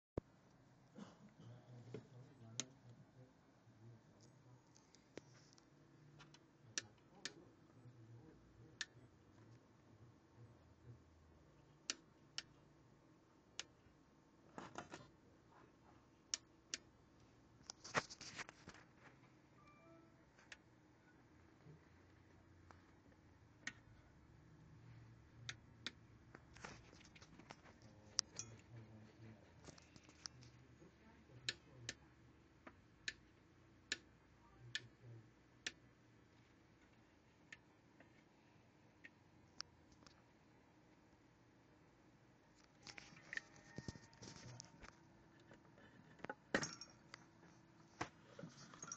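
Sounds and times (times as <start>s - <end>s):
faint low hum: 0.2s - 48.9s.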